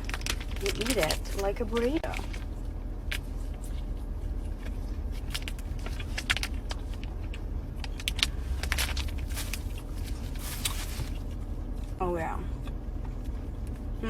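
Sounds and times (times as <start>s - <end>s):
low rumble of car: 0.0s - 14.0s.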